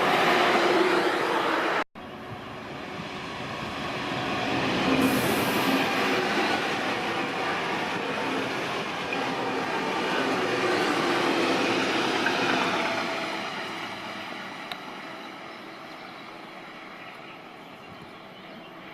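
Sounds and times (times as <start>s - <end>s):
high-speed train rushing past: 0.0s - 17.7s.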